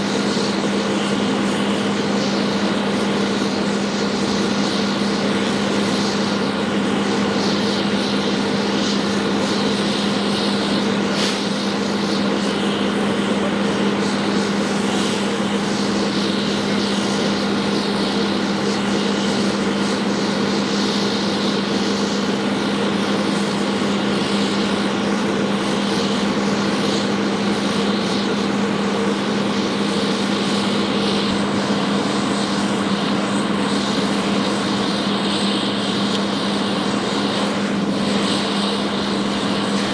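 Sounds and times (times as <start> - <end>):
engine drone: 0.0 - 39.9
hose spraying water hiss: 0.0 - 39.9.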